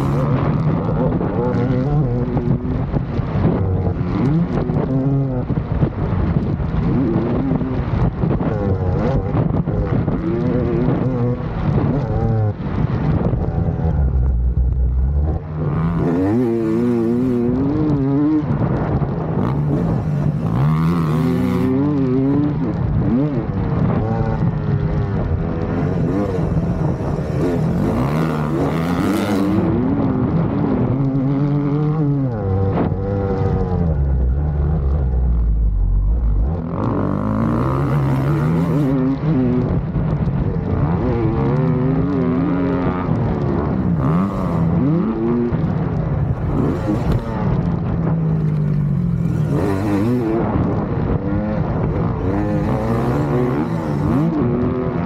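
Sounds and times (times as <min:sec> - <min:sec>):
motocross bike engine revving: 0:00.0 - 0:55.0
wind noise on microphone: 0:00.0 - 0:55.0.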